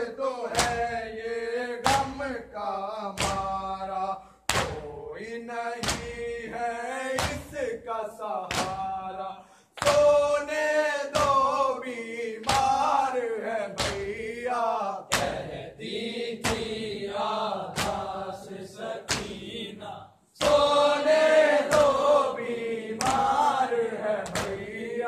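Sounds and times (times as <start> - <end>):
men chanting: 0.0 - 25.0
rhythmic chest slaps: 0.0 - 25.0.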